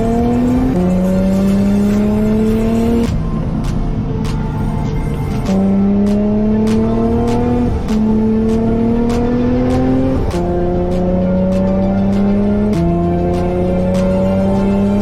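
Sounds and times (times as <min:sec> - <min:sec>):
car engine accelerating and shifting: 0:00.0 - 0:15.0
steady beat: 0:00.0 - 0:15.0.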